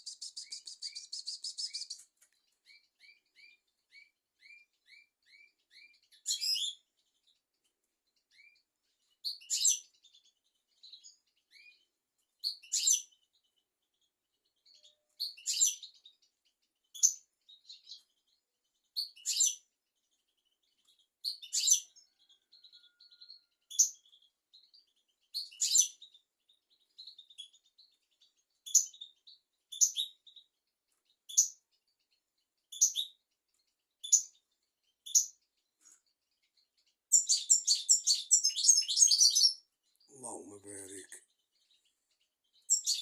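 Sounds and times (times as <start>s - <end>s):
finch twittering song: 0.0s - 43.0s.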